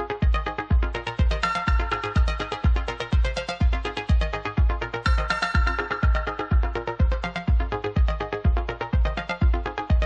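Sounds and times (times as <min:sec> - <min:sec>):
bass-drum beat: 0:00.0 - 0:10.0.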